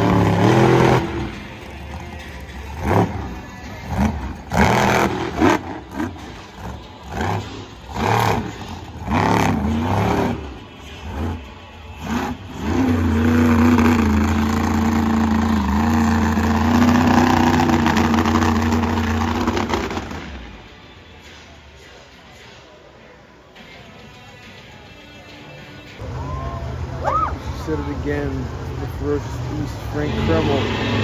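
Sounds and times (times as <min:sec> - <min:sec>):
truck engine revving: 0:00.0 - 0:20.7, 0:26.0 - 0:31.0.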